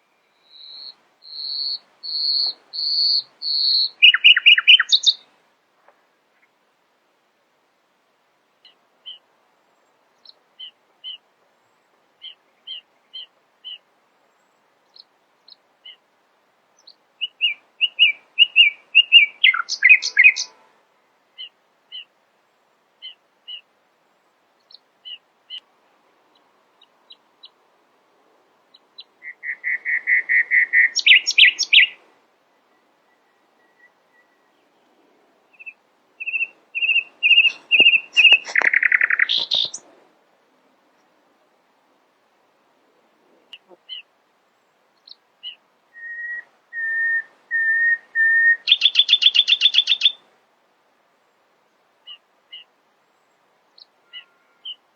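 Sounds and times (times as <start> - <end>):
songbird singing: 0.0 - 6.7, 8.0 - 50.3, 51.0 - 54.9.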